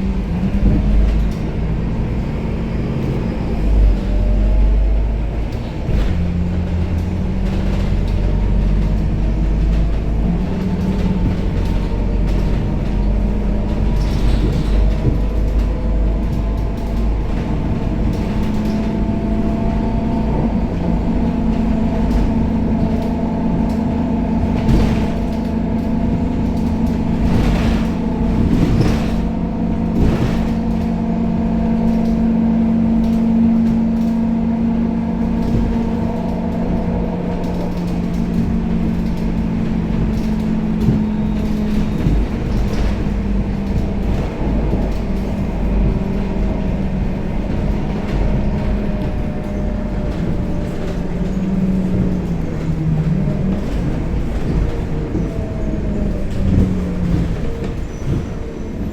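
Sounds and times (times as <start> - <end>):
bus diesel engine droning: 0.0 - 58.9
panels creaking and rattling: 0.0 - 58.9.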